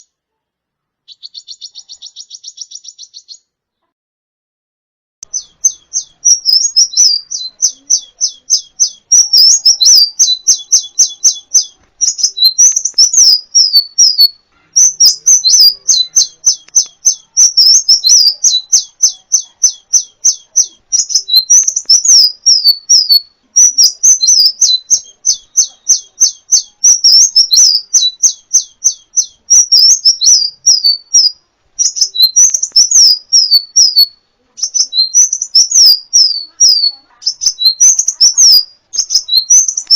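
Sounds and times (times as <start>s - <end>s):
sunbird chirping: 1.1s - 3.6s, 5.2s - 39.9s.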